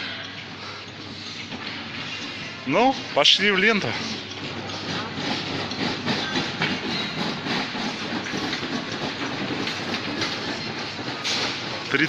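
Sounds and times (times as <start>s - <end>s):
shopping trolley rattling: 1.5s - 12.0s.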